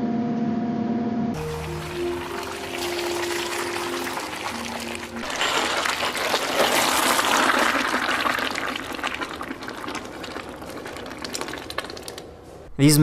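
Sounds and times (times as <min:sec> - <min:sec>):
molten metal pouring onto sand: 0:01.4 - 0:12.4.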